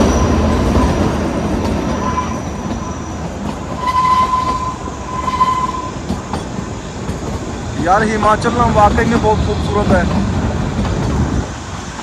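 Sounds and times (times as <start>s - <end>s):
train wheels rattling: 0.0s - 12.0s.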